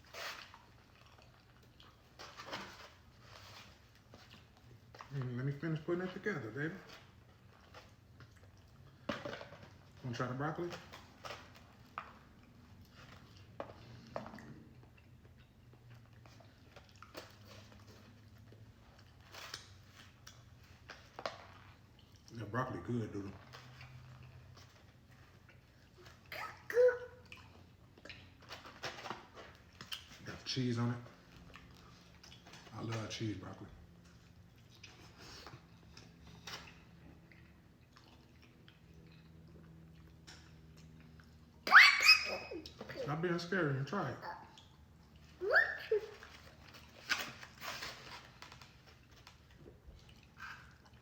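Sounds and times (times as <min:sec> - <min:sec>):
soft chewing: 0:00.0 - 0:10.0, 0:10.7 - 0:26.3, 0:27.0 - 0:41.6, 0:44.3 - 0:51.0.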